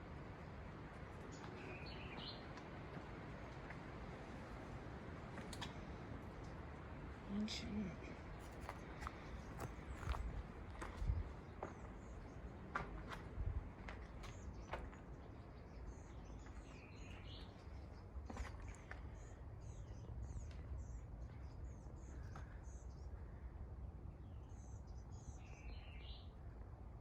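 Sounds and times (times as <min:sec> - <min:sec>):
birds chirping: 0:00.3 - 0:02.8, 0:05.4 - 0:26.5.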